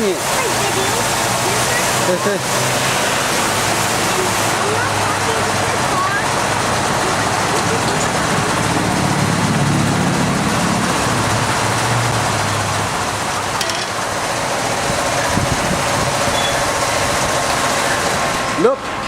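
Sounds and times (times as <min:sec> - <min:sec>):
car wash spray and machinery: 0:00.0 - 0:19.0.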